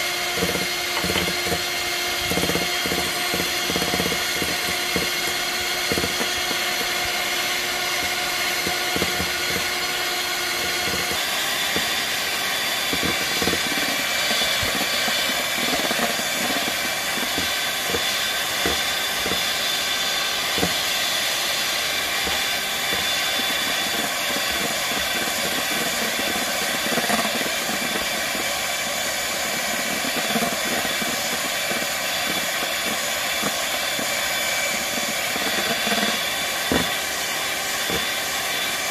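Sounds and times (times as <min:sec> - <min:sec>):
hand mixer motor whine: 0:00.0 - 0:38.9.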